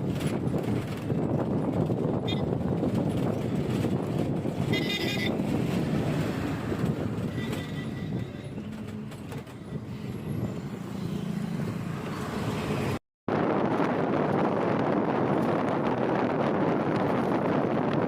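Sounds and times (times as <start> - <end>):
low wind rumble: 0.0 - 18.0
vehicle road noise: 0.0 - 18.0.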